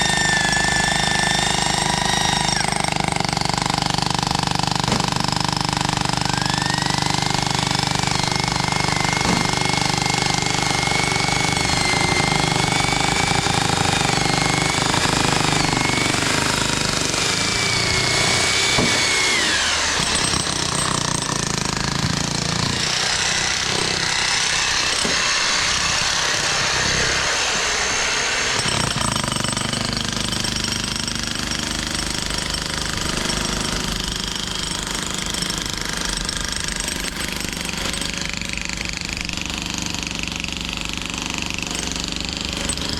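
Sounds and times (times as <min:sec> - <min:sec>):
construction machinery rattle: 0:00.0 - 0:27.7, 0:28.5 - 0:42.9.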